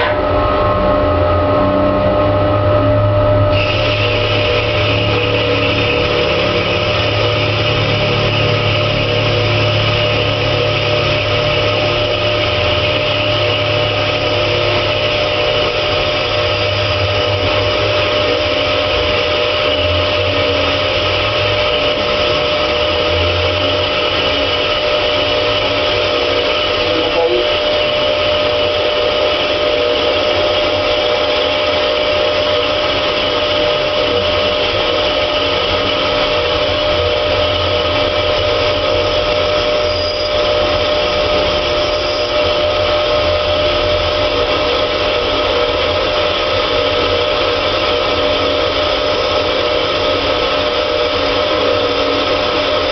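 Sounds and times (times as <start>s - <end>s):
lathe machine whine: 0.0s - 52.9s.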